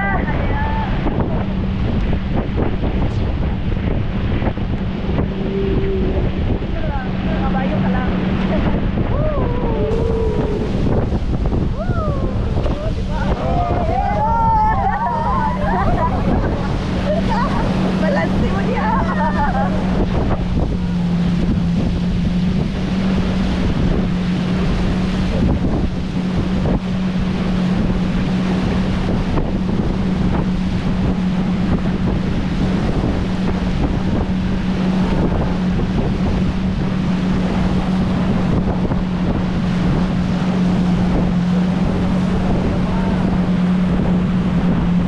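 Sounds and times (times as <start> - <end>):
boat motor droning: 0.0 - 45.0
water rushing past: 0.0 - 45.0
wind buffeting microphone: 0.0 - 45.0.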